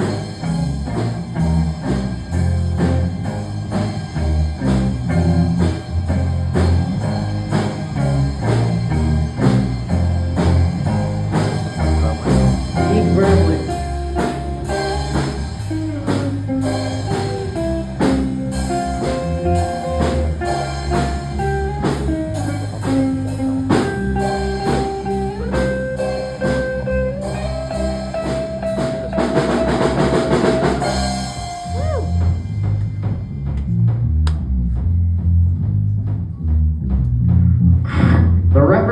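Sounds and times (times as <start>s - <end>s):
guitar: 0.0s - 34.5s
live band playing: 0.0s - 38.4s
bass guitar: 0.0s - 38.9s
drum kit beat: 0.0s - 38.9s.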